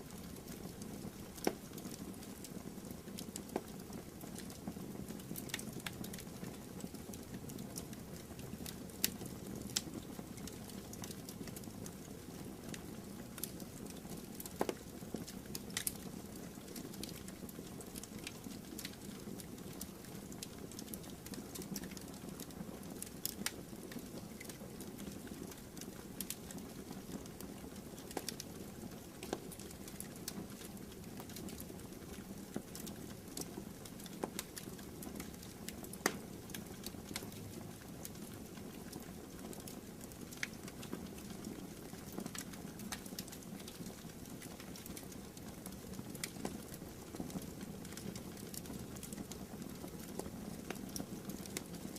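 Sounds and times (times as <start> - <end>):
campfire crackling and popping: 0.1 - 51.9.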